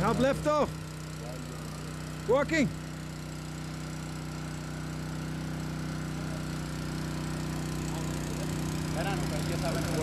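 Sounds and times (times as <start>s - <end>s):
portable water pump engine running: 0.0s - 10.0s.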